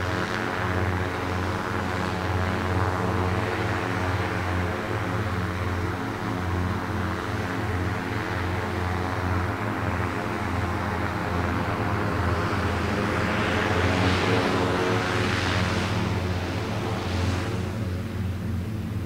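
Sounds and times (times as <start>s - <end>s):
electric propellers humming: 0.0s - 19.0s.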